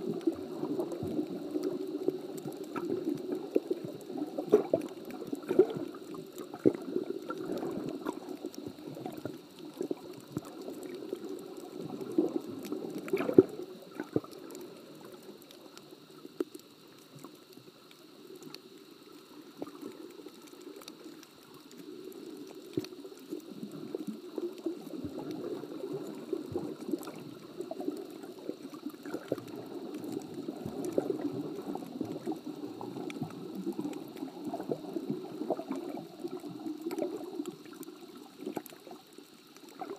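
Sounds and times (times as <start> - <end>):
underwater churning slosh: 0.0 - 15.5, 18.2 - 39.9
faint clicks: 0.1 - 39.9.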